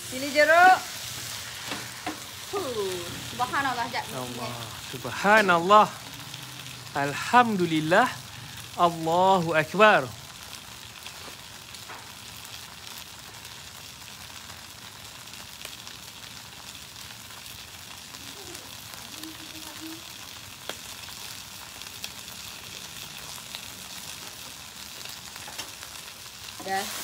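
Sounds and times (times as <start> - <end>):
noodles sizzling in a wok: 0.0 - 27.0.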